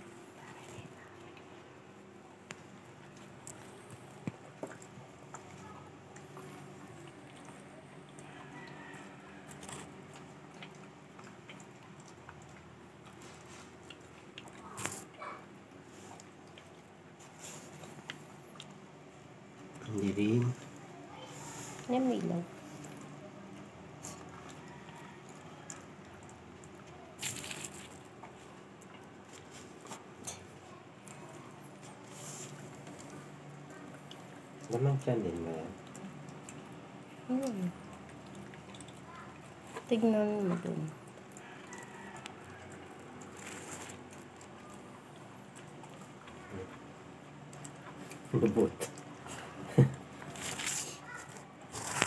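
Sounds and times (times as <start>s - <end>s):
dog gnawing on chew stick: 2.2s - 18.8s, 19.5s - 52.0s.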